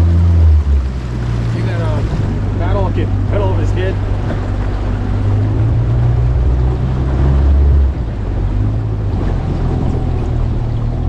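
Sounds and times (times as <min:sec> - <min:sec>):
motorboat engine humming: 0:00.0 - 0:11.0.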